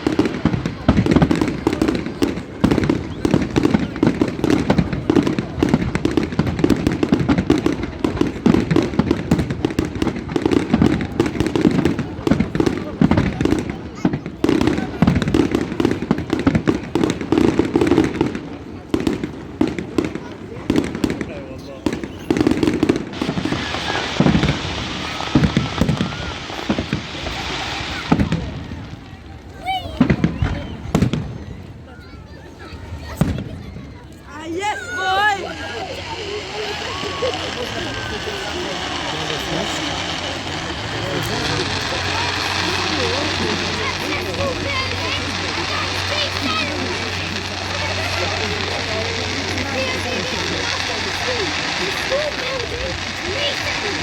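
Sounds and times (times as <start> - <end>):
firecrackers cracking: 0.0 - 31.4, 33.0 - 54.0.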